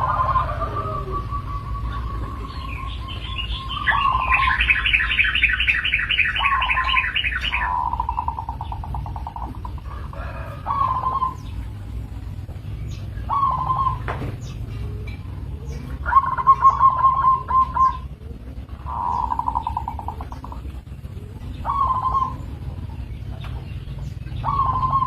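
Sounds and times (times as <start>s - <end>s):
dove cooing: 0.0s - 25.0s
steady low rumble: 0.0s - 25.0s.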